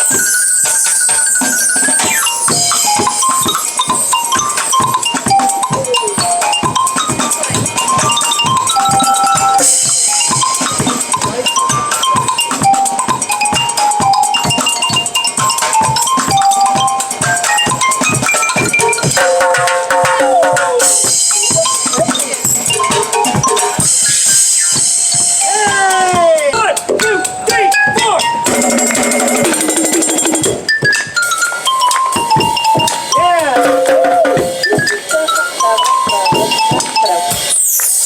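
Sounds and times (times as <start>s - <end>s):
driving drum beat: 0.0s - 38.0s.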